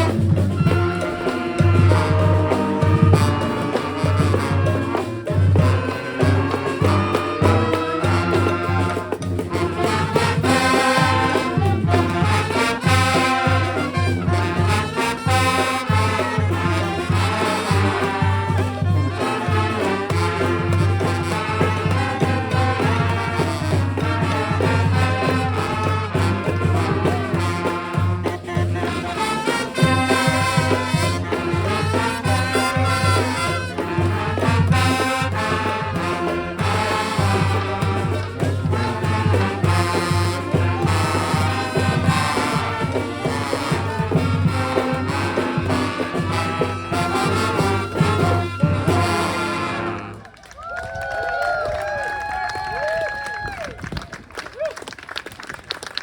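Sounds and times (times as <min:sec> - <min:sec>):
percussion hits: 0:00.0 - 0:50.2
brass band playing: 0:00.0 - 0:50.6.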